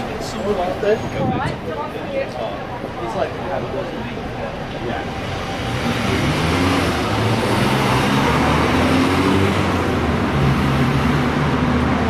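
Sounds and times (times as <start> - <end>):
cars driving through intersection: 0.0 - 12.0.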